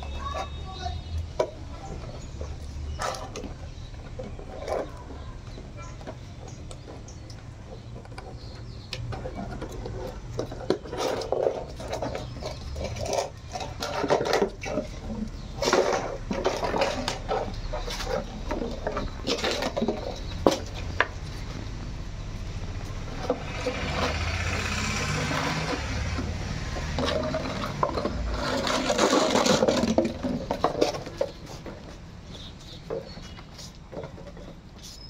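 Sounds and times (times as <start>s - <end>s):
plastic ball pushed about: 0.2s - 35.0s.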